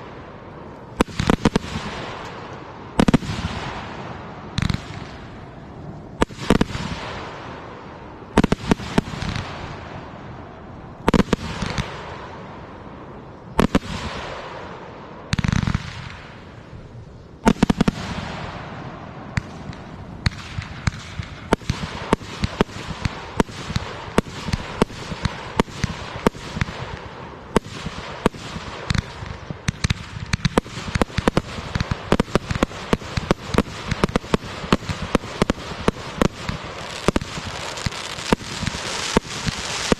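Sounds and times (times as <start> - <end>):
firework crackling: 0.0 - 39.9.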